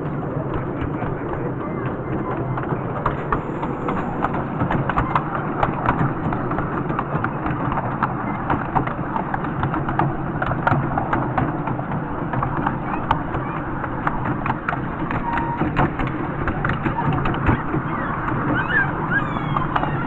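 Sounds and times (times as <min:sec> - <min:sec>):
miniature train rumbling: 0:00.0 - 0:20.0
wheels clicking on rails: 0:00.0 - 0:20.0.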